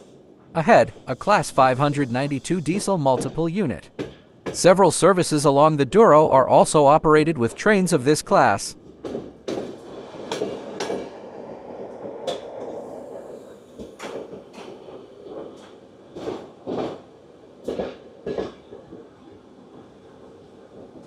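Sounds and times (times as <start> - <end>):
train knocks and clunks: 0.0 - 5.7, 6.8 - 21.0.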